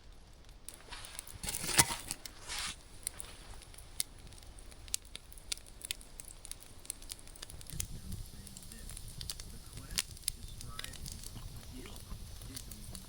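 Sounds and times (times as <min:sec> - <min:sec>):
campfire crackling and popping: 0:00.0 - 0:13.0
rustling hiss: 0:00.0 - 0:13.0.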